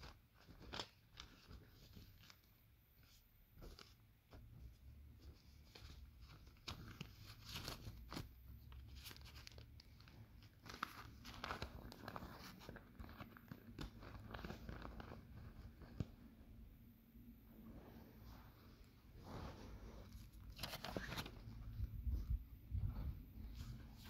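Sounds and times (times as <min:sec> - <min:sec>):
banknotes crinkling and rustling: 0:00.0 - 0:16.6, 0:20.0 - 0:24.0.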